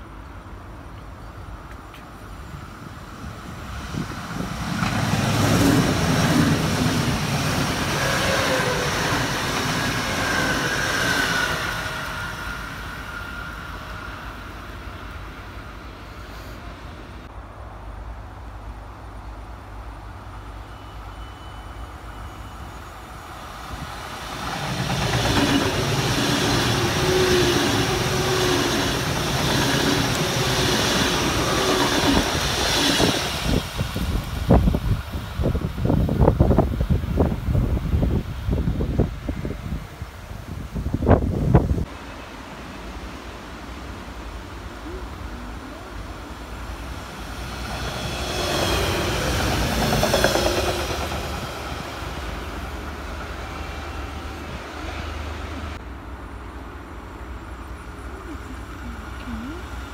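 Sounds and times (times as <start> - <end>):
electric trains passing: 0.0 - 59.9.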